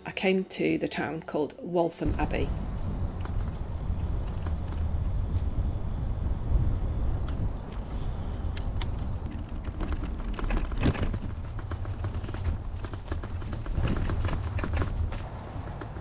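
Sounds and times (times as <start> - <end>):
wind rumble on microphone: 2.0 - 16.0
bike tyres rolling: 2.1 - 16.0
bike clicks and rattles: 2.8 - 16.0.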